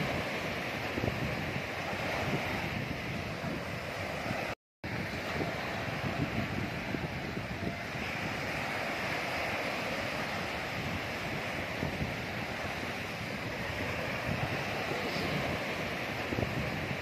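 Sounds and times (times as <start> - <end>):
waves washing onto beach: 0.0 - 17.0
wind buffeting microphone: 0.0 - 17.0.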